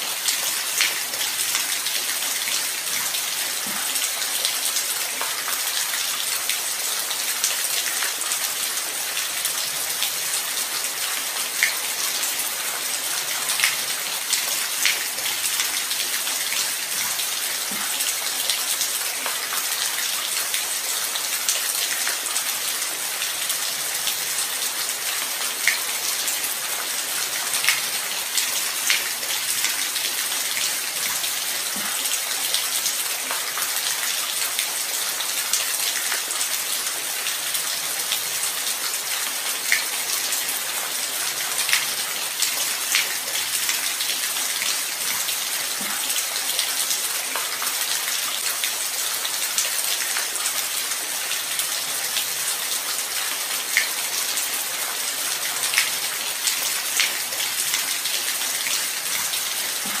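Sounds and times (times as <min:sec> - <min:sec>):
light rain falling: 0:00.0 - 1:00.0.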